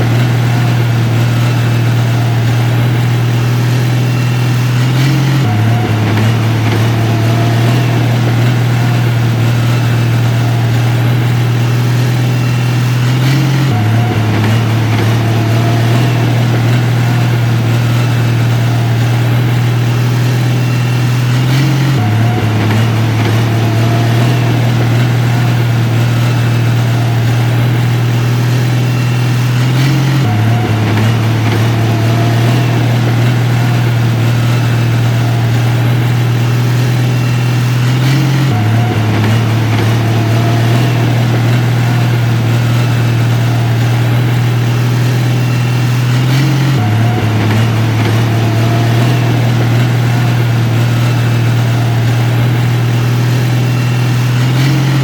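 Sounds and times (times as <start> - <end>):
heavy machine engine drone: 0.0 - 55.0.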